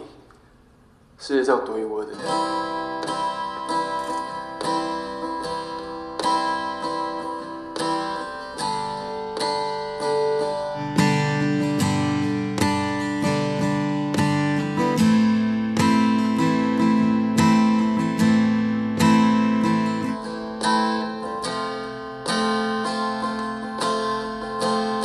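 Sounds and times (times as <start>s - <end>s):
acoustic guitar picking: 2.1s - 25.0s.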